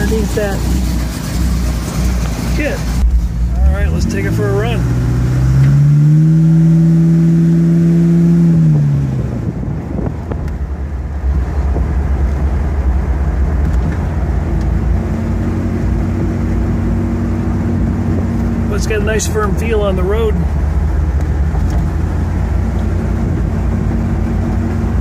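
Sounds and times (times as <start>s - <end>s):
car engine revving: 0.0s - 25.0s
road noise: 0.0s - 25.0s.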